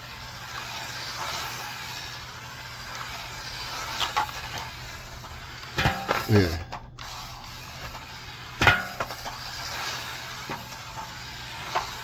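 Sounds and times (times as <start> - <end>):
small rc car driving: 0.0 - 6.4, 7.0 - 12.0.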